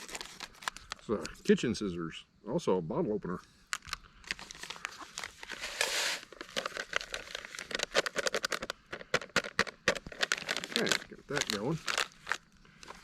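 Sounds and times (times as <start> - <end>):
packaging crinkling: 0.0 - 1.3, 3.7 - 13.0.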